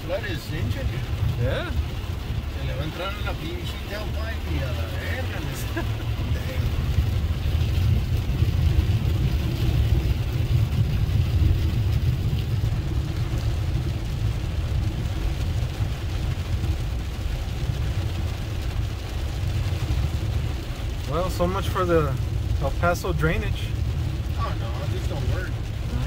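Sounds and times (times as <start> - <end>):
engine and road rumble: 0.0 - 26.0
water hissing under tyres: 0.0 - 26.0.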